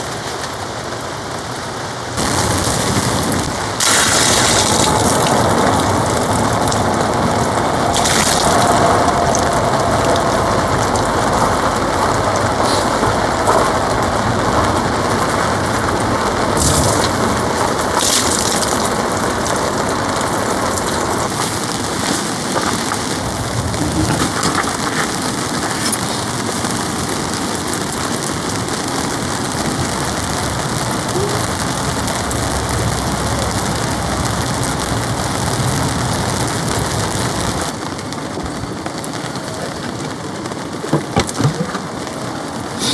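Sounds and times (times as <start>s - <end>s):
heavy rain on a tarp: 0.0s - 42.9s.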